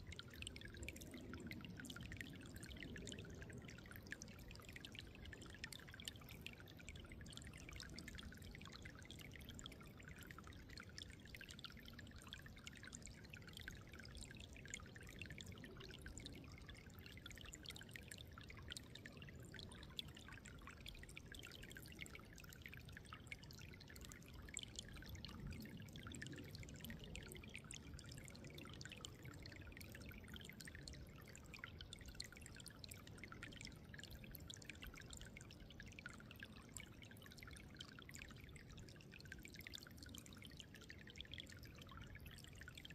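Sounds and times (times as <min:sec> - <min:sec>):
water trickling and splashing: 0:00.0 - 0:42.9.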